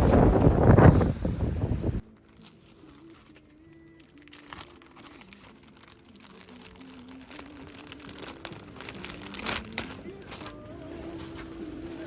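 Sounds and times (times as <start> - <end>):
light crinkling: 2.0 - 12.0
soft slow background melody: 2.0 - 12.0.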